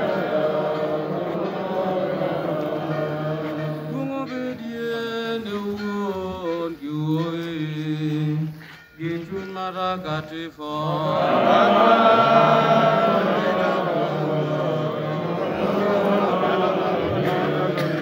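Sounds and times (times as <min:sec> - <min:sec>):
congregation singing: 0:00.0 - 0:18.0.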